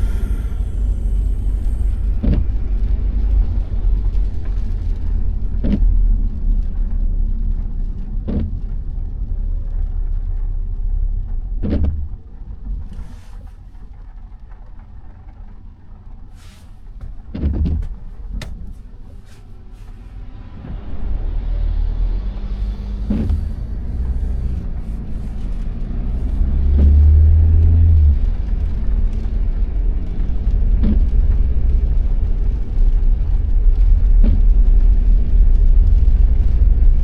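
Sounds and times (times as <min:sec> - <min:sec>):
windscreen wipers swishing: 0:00.0 - 0:10.5, 0:11.2 - 0:37.0
car road rumble: 0:00.0 - 0:37.0.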